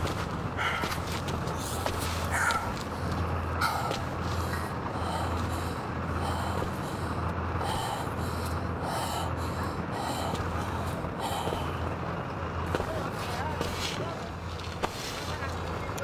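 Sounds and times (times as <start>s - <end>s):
man breathing heavily: 0.0s - 14.0s
steady low hum: 0.0s - 16.0s.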